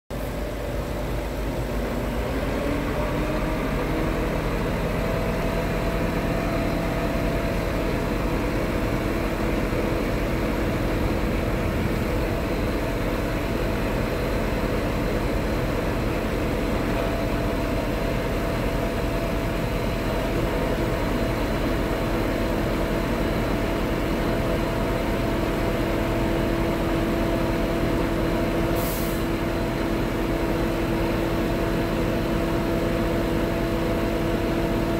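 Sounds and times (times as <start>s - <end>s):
diesel truck engine running: 0.1s - 34.9s
hydraulic pump whine: 0.2s - 34.9s.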